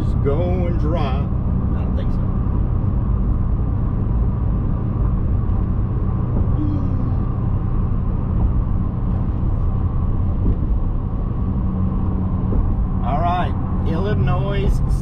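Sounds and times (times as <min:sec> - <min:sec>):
steady low hum: 0:00.0 - 0:15.0
tyre and engine rumble: 0:00.0 - 0:15.0.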